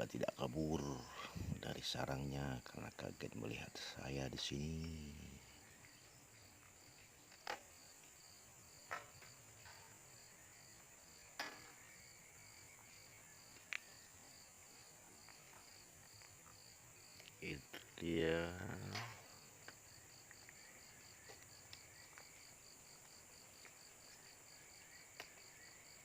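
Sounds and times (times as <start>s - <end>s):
faint insect chirping: 0.0s - 26.0s.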